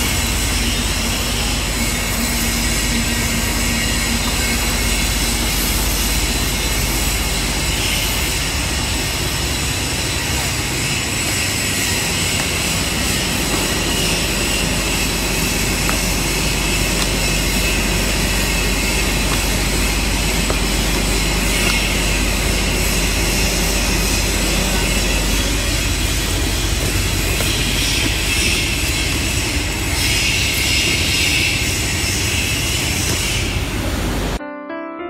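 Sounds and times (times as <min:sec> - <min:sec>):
machine humming: 0:00.0 - 0:34.4.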